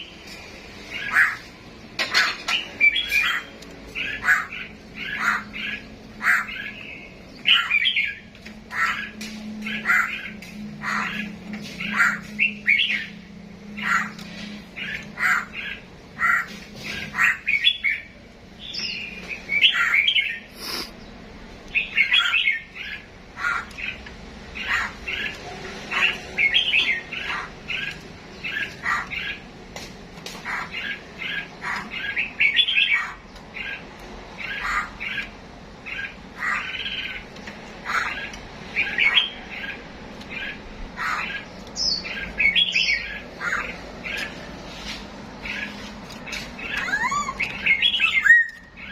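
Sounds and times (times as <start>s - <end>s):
cage birds chirping: 0.0s - 48.9s.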